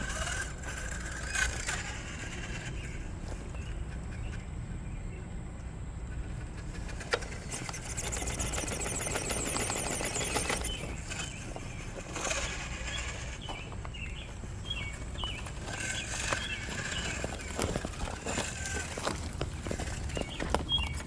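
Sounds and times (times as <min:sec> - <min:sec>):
toy truck motor whining: 0:00.0 - 0:04.5, 0:06.2 - 0:21.0
low outdoor rumble: 0:00.0 - 0:21.0.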